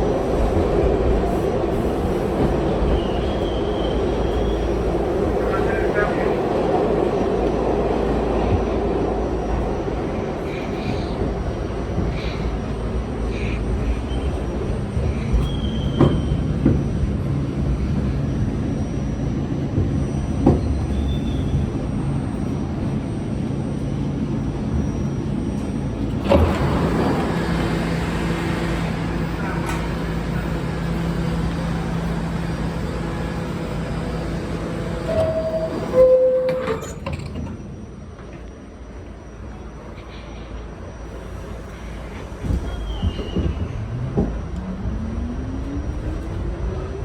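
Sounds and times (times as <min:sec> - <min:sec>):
subway car rumbling on track: 0:00.0 - 0:47.0.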